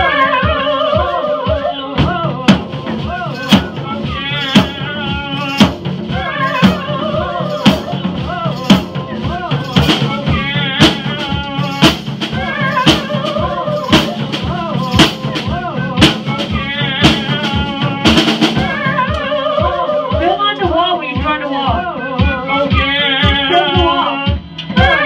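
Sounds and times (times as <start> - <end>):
drum kit playing: 0.0 - 25.0
person singing: 0.0 - 25.0.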